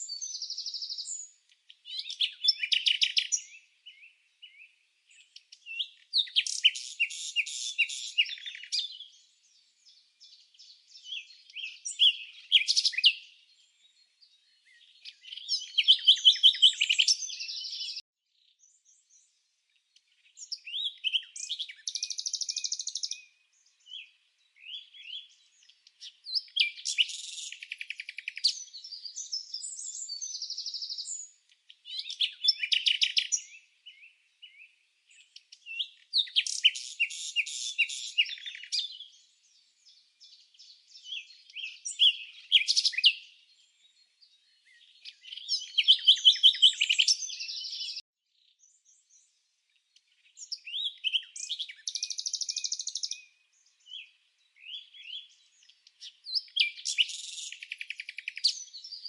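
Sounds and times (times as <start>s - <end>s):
songbird trills and chirps: 0.0s - 59.0s.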